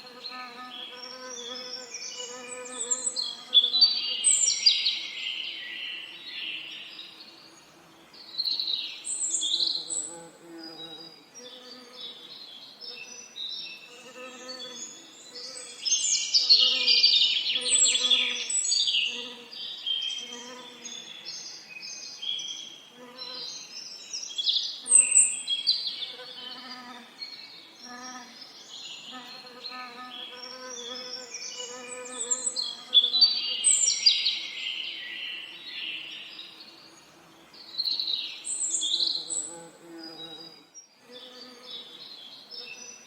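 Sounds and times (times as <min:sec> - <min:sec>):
songbirds singing and chirping: 0:00.0 - 0:43.0.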